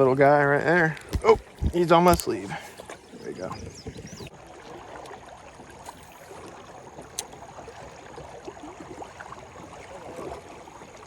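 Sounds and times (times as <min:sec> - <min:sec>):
river water gurgling: 0:00.0 - 0:11.0.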